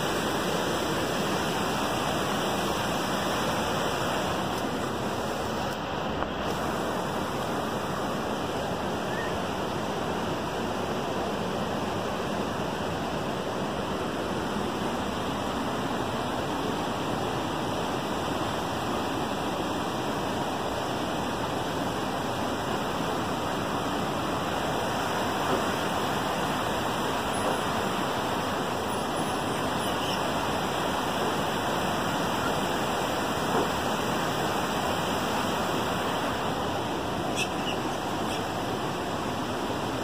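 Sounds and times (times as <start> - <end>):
river rushing over rocks: 0.0 - 40.0.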